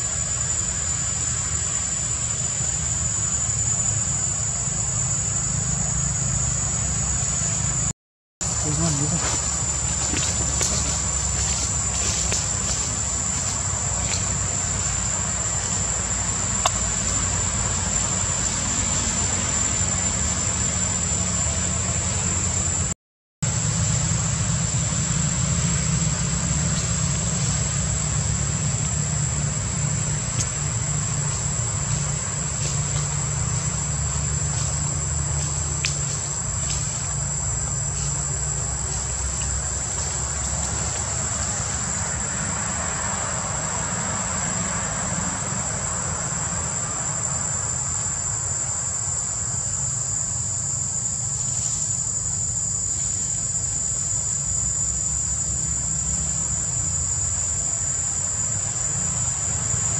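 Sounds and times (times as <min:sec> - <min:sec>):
low steady rumble: 0:00.0 - 0:59.6
insects droning: 0:00.0 - 0:59.9.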